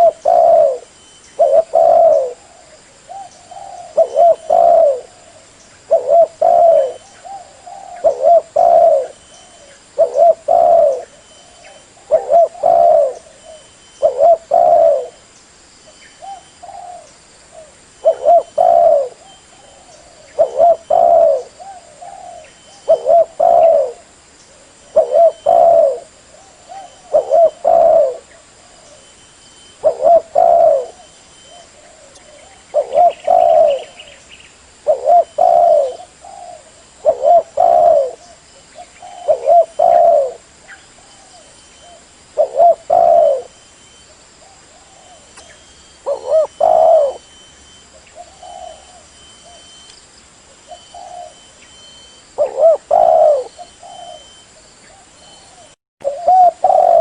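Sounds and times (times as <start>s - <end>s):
dove cooing: 0.0s - 15.2s, 16.2s - 34.2s, 34.8s - 49.8s, 50.6s - 57.0s.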